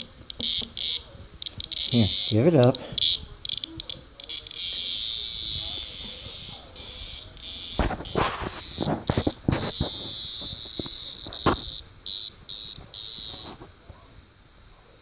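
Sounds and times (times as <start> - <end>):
sharp clicks: 0.0 - 2.3, 3.0 - 13.7
cicada harsh buzzing: 0.0 - 13.8.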